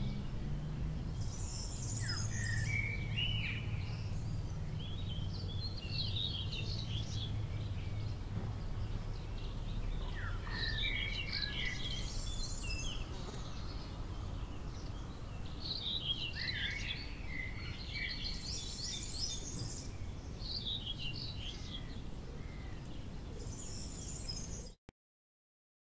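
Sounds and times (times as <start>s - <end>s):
birds chirping: 0.0s - 24.8s.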